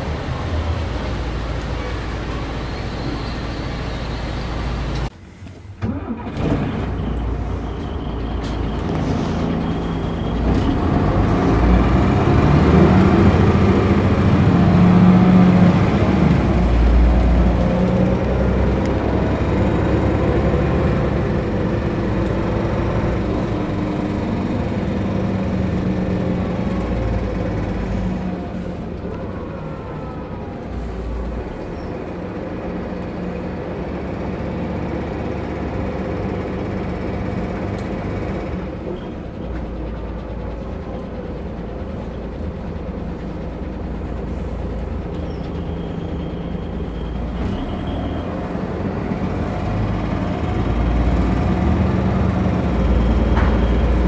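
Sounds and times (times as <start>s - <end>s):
bus diesel engine and running gear: 0.0s - 54.0s.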